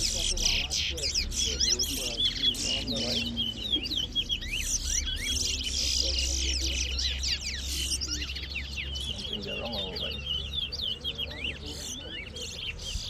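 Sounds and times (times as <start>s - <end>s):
finches singing chirped phrases: 0.0s - 13.0s.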